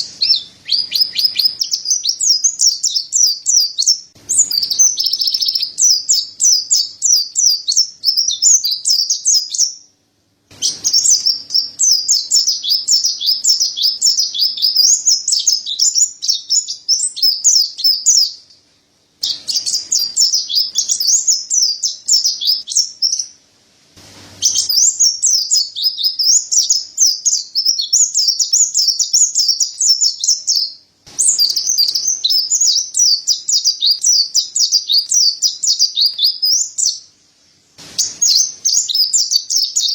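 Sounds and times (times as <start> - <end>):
bird chattering song: 0.0 - 18.6, 19.2 - 23.4, 24.4 - 37.1, 37.9 - 39.9.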